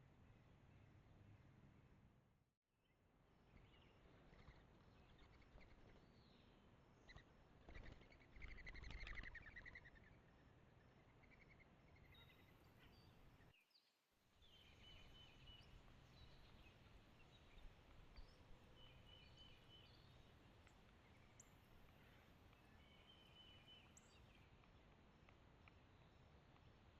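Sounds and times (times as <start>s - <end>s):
low outdoor background noise: 0.0s - 26.9s.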